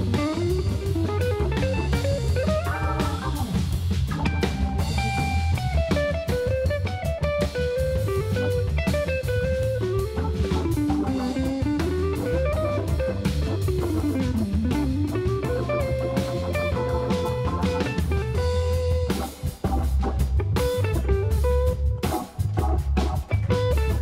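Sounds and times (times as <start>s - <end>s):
drums with cymbals: 0.0s - 24.0s
electric guitar melody: 0.0s - 24.0s
organ bass line: 0.0s - 24.0s.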